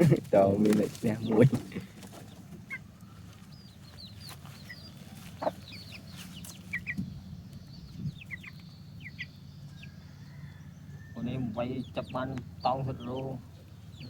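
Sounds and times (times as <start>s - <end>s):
chicks chirping and peeping: 0.0s - 14.0s.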